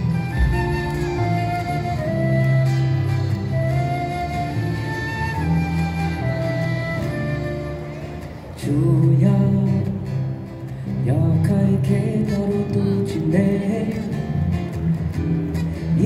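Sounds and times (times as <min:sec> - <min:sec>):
electric guitar: 0:00.0 - 0:16.0
strummed acoustic guitar: 0:00.0 - 0:16.0.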